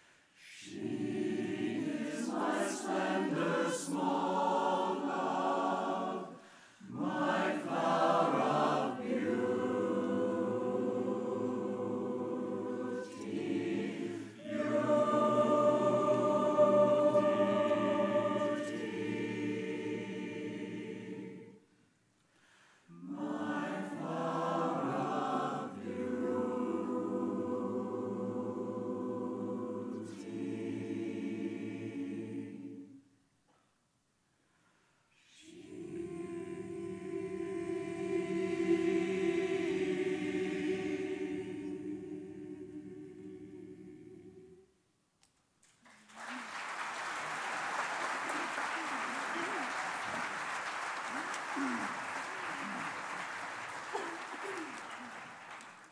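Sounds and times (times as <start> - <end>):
mixed choir singing: 0.4 - 21.7, 22.9 - 33.0, 35.2 - 44.8, 48.0 - 55.9.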